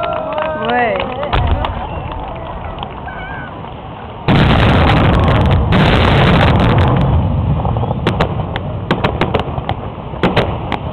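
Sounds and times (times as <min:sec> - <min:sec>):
fireworks bangs and crackles: 0:00.1 - 0:10.9.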